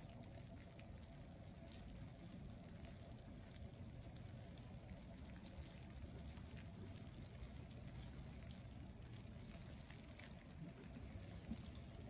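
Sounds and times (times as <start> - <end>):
soft scattered ticks: 0.0 - 12.0.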